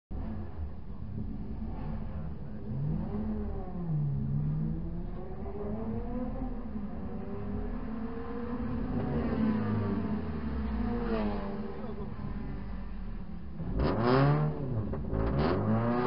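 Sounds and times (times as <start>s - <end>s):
car engine revving inside cabin: 0.1s - 16.0s.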